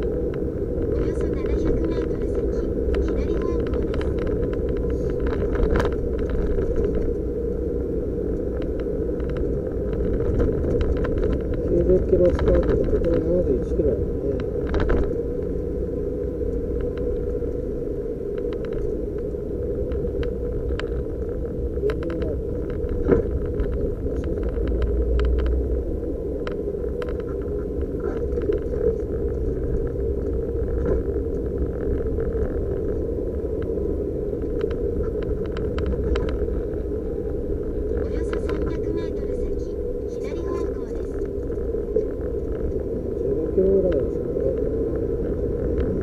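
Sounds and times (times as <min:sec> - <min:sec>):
car engine and road noise drone: 0:00.0 - 0:46.0.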